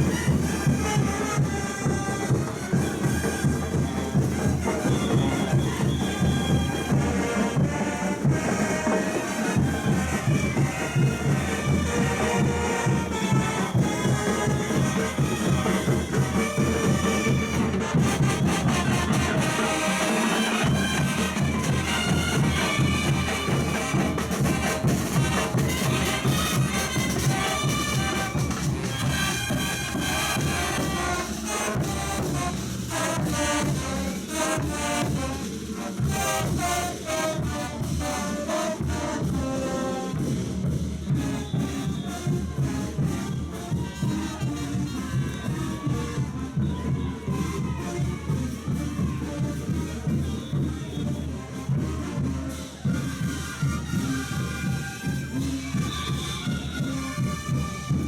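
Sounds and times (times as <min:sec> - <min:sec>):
steady drumbeat: 0:00.0 - 0:58.0
wind instruments playing melody: 0:00.0 - 0:58.0.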